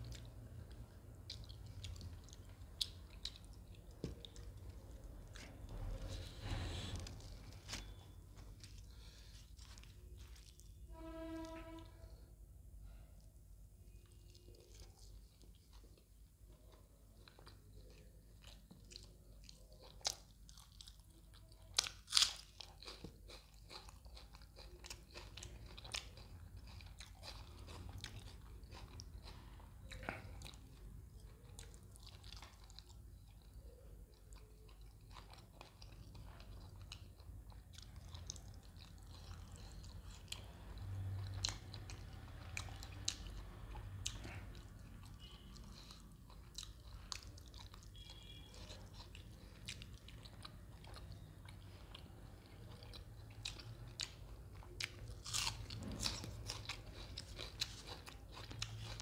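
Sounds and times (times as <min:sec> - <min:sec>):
person chewing food: 0:00.0 - 0:12.2, 0:12.8 - 0:59.0.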